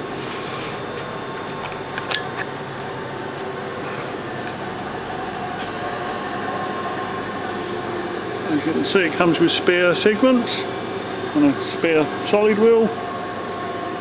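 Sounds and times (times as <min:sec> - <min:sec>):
machine mechanical drone: 0:00.0 - 0:14.0.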